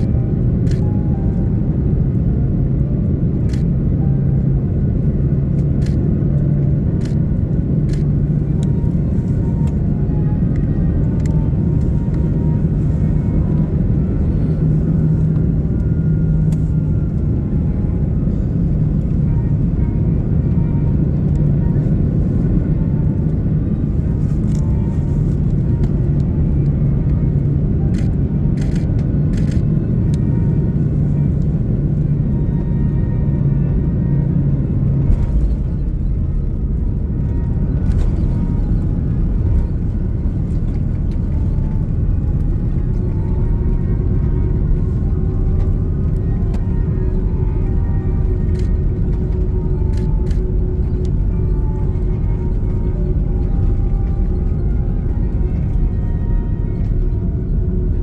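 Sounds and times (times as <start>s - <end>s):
airplane cabin noise: 0.0s - 58.0s.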